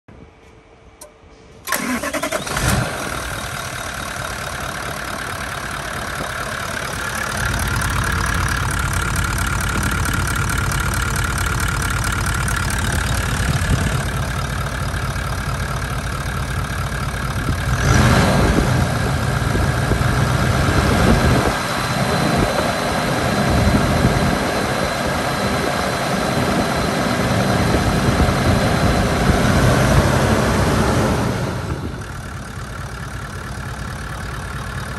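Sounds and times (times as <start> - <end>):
diesel engine starting and running: 0.9 - 34.9.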